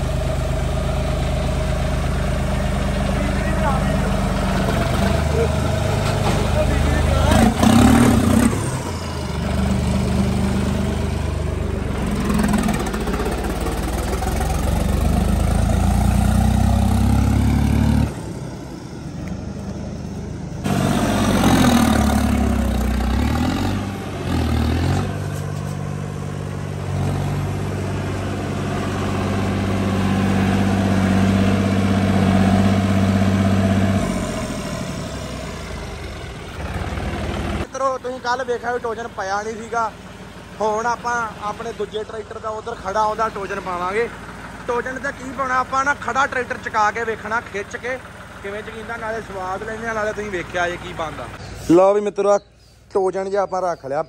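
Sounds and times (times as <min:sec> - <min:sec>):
tractor diesel engine revving: 0:00.0 - 0:52.0.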